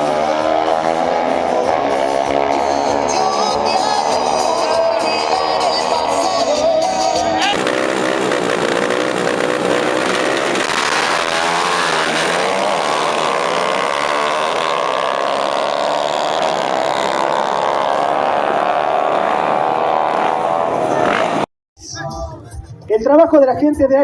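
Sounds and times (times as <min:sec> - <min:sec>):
racing motorcycle engine revving: 0:00.0 - 0:21.5.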